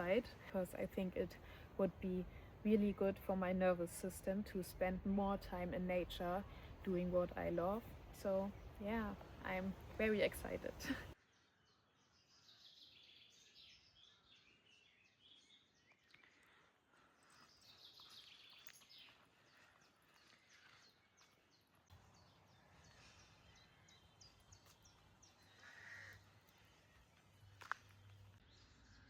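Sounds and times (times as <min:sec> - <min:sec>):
faint birdsong: 0:00.0 - 0:29.0.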